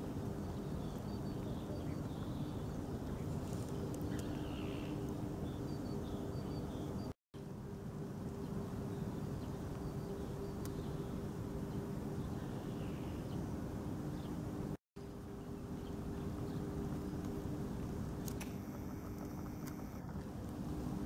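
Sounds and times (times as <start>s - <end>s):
low even hum: 0.0s - 21.0s.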